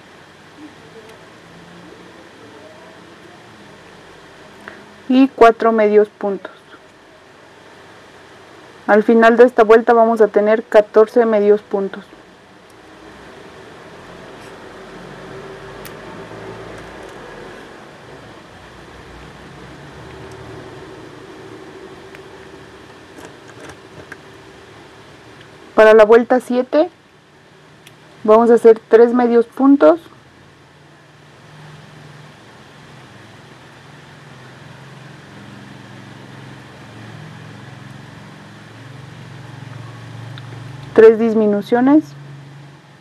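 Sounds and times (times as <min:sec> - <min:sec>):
background hum and hiss: 0:00.0 - 0:43.0.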